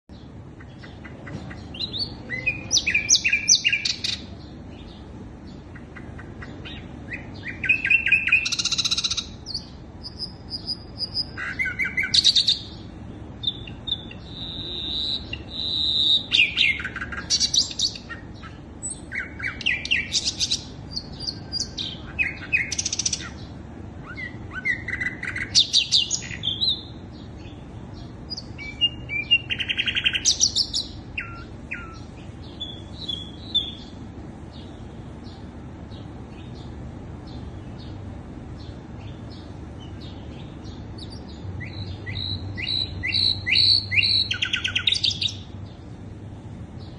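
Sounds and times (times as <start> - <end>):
bird chirping and trilling: 0.1 - 46.1
low background hum: 0.1 - 46.9.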